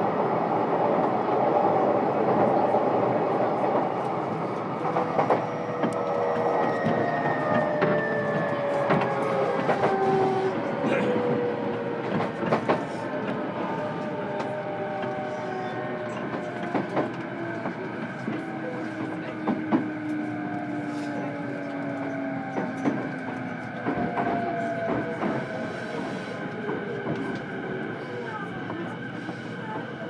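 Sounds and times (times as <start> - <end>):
train rumble in motion: 0.0 - 30.0.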